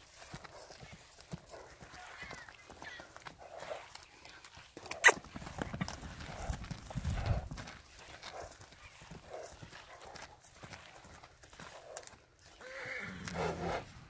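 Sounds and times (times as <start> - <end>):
hoofbeats on grass: 0.0 - 14.0.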